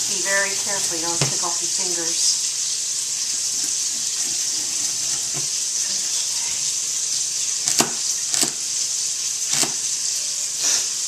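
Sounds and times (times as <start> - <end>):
sausage sizzling in a pot: 0.0 - 11.0.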